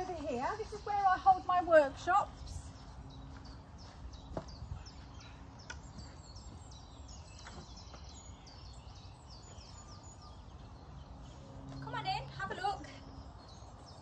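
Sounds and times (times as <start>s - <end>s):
birds singing: 0.0s - 14.0s.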